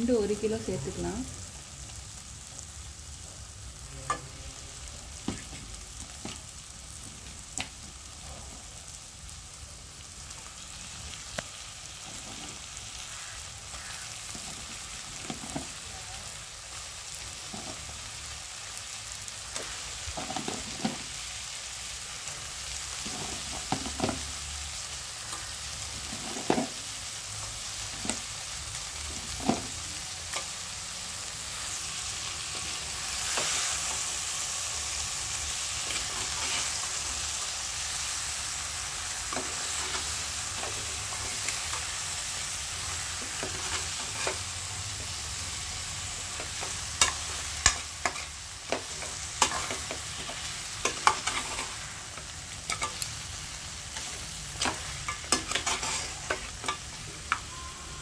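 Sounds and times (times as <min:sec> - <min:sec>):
masala sizzling in a pan: 0:00.0 - 0:58.0.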